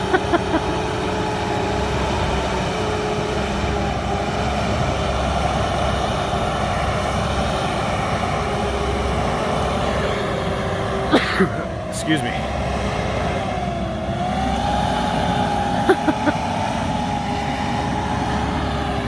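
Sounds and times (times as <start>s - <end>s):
vehicle engine running with whine: 0.0s - 19.0s.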